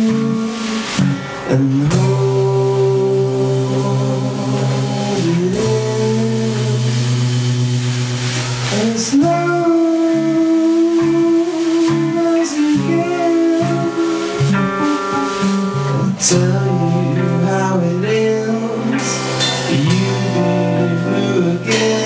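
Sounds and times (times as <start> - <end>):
psychedelic rock band playing: 0.0 - 22.0.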